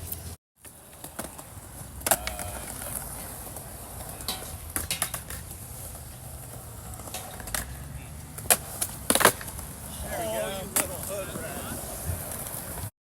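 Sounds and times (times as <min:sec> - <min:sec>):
skateboard clacking on concrete: 0:00.1 - 0:12.9.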